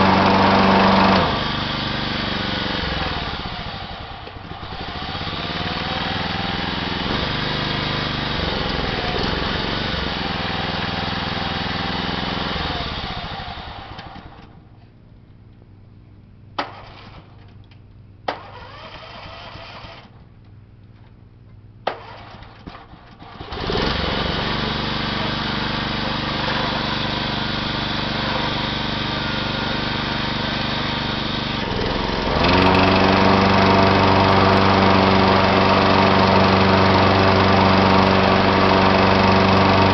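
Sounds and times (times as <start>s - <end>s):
lawn mower engine running: 0.0s - 14.7s, 16.6s - 20.5s, 22.0s - 39.9s.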